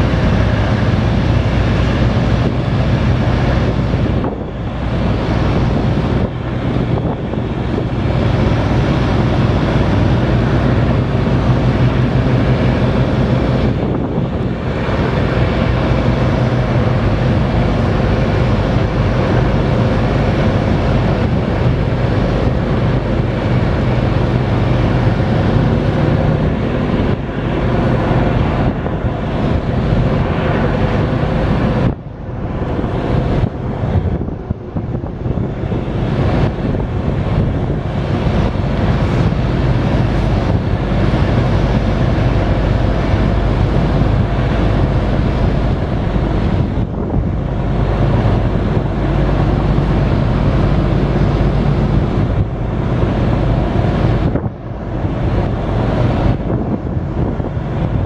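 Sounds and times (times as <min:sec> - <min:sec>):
marine diesel engines running: 0:00.0 - 0:58.0
wind buffeting microphone: 0:00.0 - 0:58.0.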